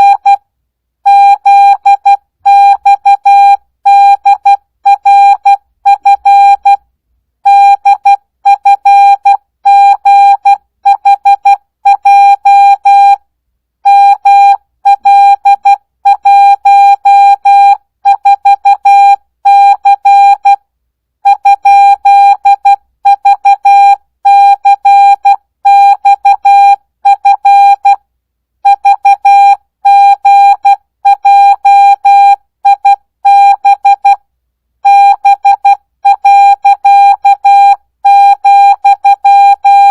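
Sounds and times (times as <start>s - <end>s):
morse code beeps: 0.0s - 0.4s, 1.1s - 6.8s, 7.5s - 13.2s, 13.9s - 20.6s, 21.3s - 28.0s, 28.6s - 34.2s, 34.8s - 39.9s.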